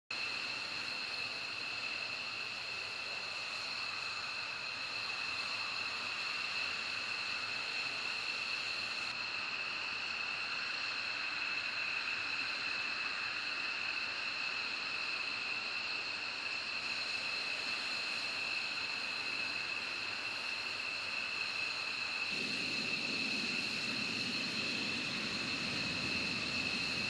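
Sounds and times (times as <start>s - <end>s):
jet engine whine: 0.1s - 27.0s
steady hiss: 0.1s - 27.0s.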